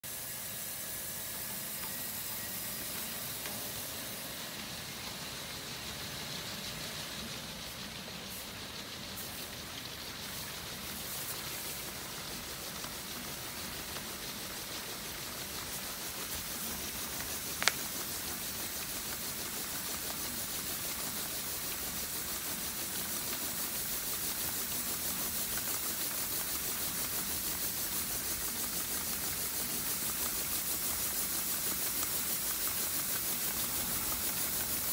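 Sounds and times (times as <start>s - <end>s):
auger conveyor hissing rush: 0.0s - 34.9s.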